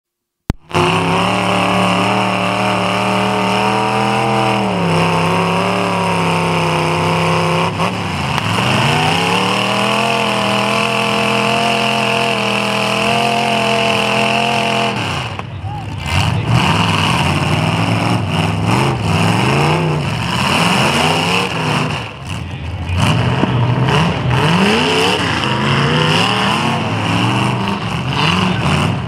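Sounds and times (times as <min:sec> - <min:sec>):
car engines revving hard: 0:00.5 - 0:29.0.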